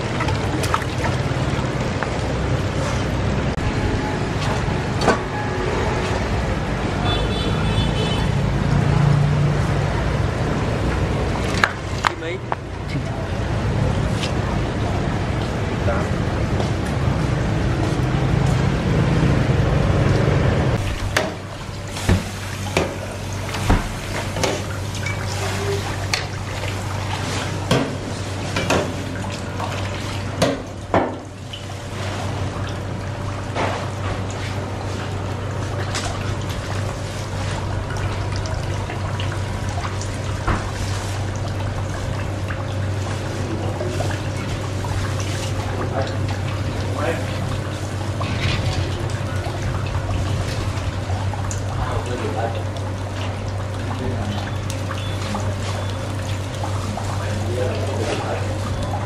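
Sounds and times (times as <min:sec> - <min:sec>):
low steady hum: 0:08.7 - 0:59.0.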